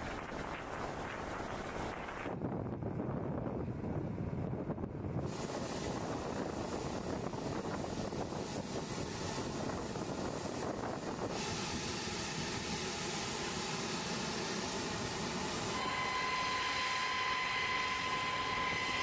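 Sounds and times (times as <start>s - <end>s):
faint steady whine: 0.0s - 19.0s
jet engines rumbling: 0.0s - 19.0s.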